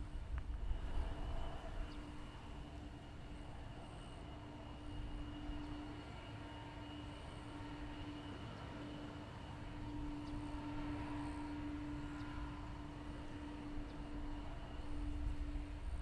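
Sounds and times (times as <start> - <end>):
distant airliner engines droning: 0.0 - 16.0.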